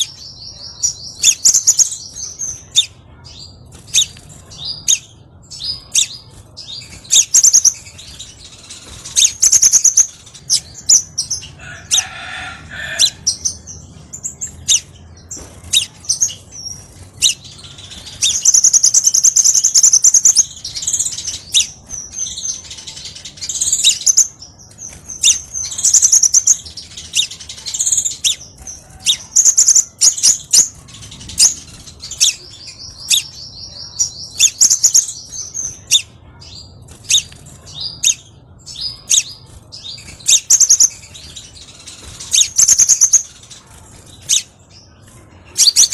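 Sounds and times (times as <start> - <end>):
bird singing high chirps and trills: 0.0 - 45.9.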